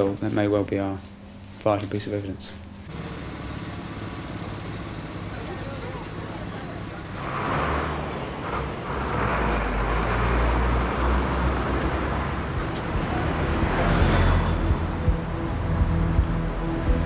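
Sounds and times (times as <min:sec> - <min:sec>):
buses driving past: 0:02.9 - 0:17.0
truck driving past: 0:02.9 - 0:17.0.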